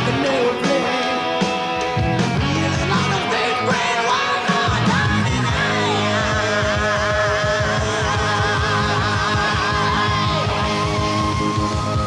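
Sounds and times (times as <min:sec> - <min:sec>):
hard rock band playing live: 0:00.0 - 0:12.0.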